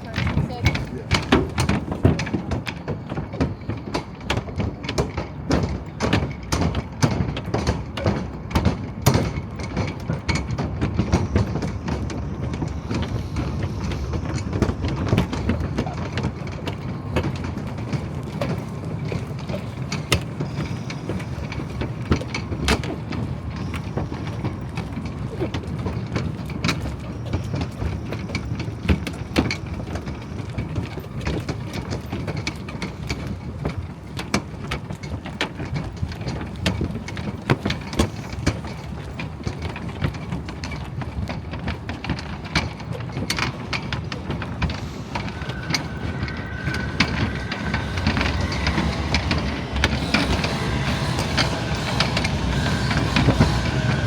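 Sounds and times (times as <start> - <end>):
low city rumble: 0.0 - 54.0.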